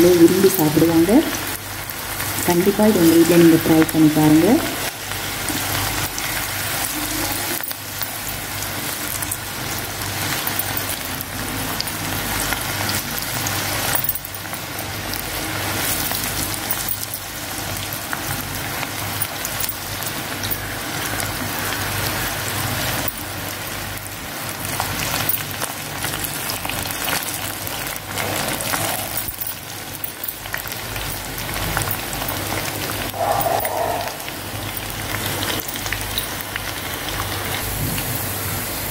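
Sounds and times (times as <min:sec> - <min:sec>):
food deep-frying in hot oil: 0:00.0 - 0:38.9.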